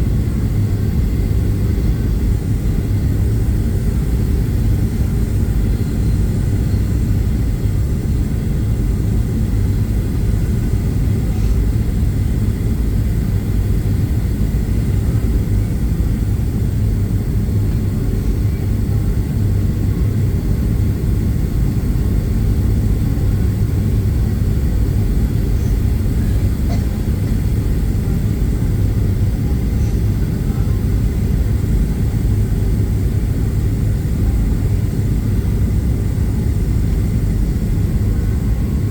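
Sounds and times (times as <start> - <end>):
aircraft engine noise: 0.0 - 38.9.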